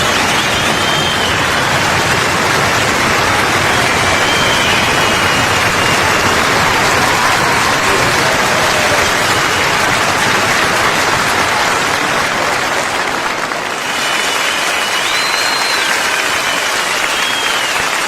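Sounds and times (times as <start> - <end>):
crowd applause: 0.0 - 18.0.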